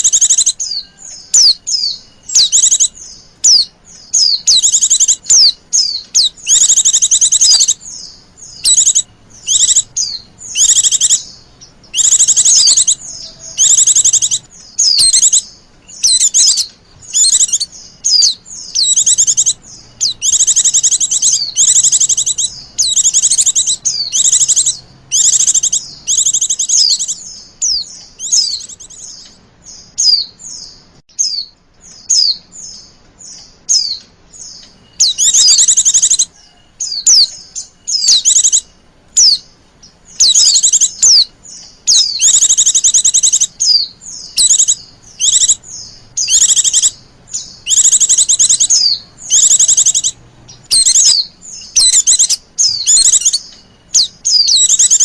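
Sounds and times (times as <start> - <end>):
bird twittering and chirping: 0.0 - 55.0.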